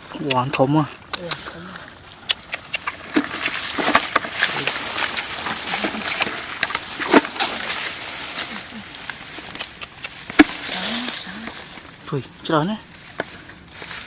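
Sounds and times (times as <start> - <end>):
rustling and crackling stubble: 0.0 - 14.0.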